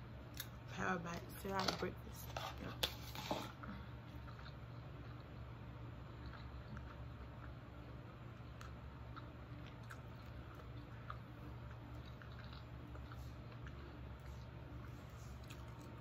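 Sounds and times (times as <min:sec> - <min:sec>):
low room hum: 0:00.0 - 0:16.0
person chewing: 0:02.9 - 0:16.0.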